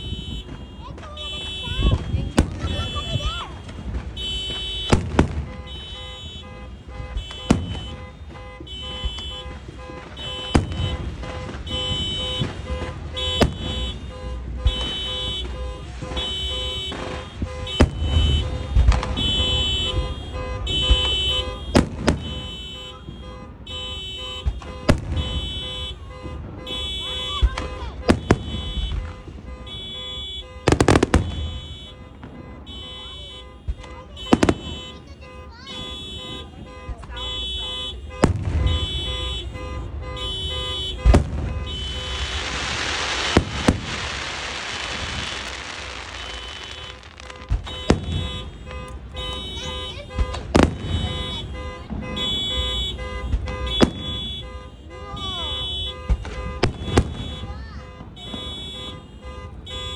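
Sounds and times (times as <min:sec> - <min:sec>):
car alarm beeping: 0:00.0 - 0:59.9
fireworks bangs: 0:00.0 - 0:59.9.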